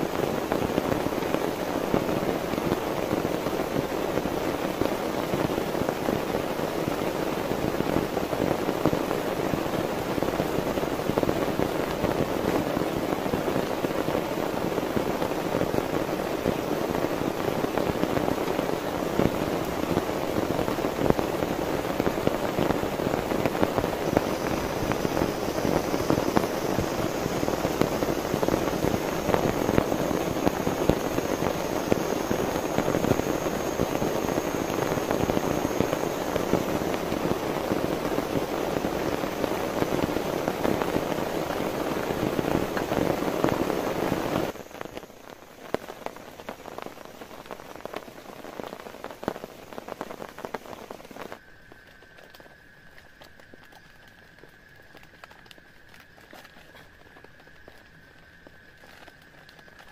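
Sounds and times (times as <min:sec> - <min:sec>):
heavy rain on a tarp: 0:00.0 - 0:59.9.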